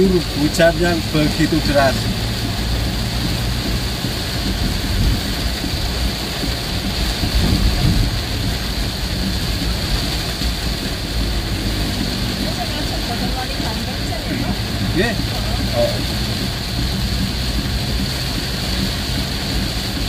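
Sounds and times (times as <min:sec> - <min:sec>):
heavy rain on vehicle: 0:00.0 - 0:20.0
low engine and road rumble: 0:00.0 - 0:20.0.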